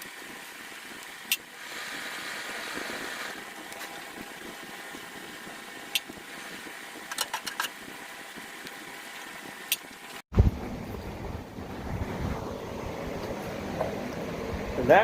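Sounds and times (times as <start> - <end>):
forge fire hissing under blower: 0.0 - 15.0.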